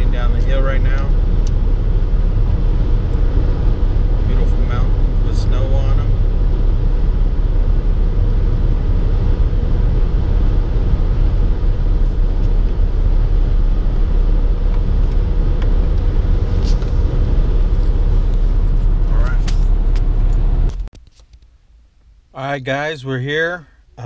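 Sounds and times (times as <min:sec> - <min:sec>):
car road and engine drone: 0:00.0 - 0:20.9.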